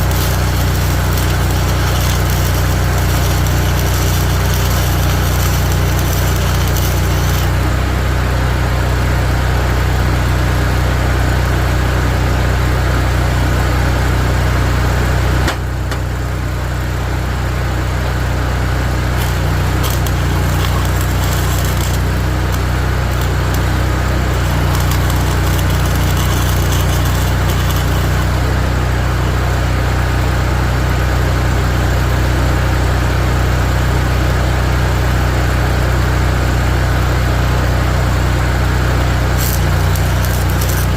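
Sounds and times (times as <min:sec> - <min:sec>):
welding generator engine running: 0:00.0 - 0:40.9.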